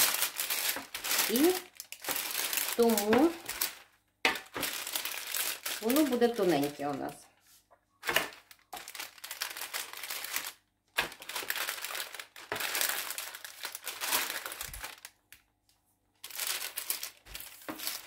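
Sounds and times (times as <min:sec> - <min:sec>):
baking parchment crinkling: 0:00.0 - 0:15.6, 0:16.2 - 0:18.0.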